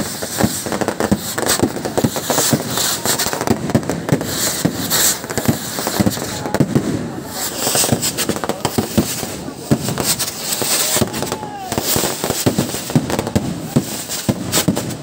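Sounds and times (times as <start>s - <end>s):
fireworks bangs and cracks: 0.0s - 15.0s
rockets hissing and crackling: 0.0s - 15.0s.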